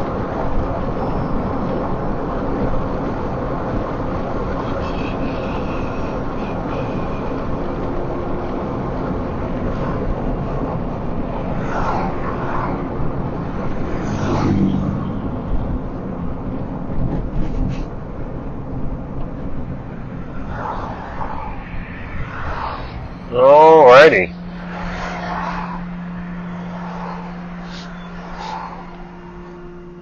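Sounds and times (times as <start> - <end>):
car road and engine rumble: 0.0 - 30.0.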